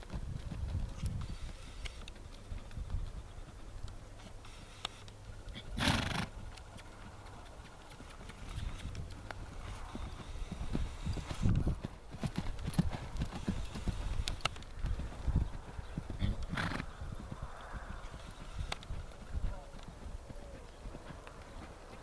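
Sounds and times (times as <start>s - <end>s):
horse hoofbeats on dirt: 0.0s - 22.0s.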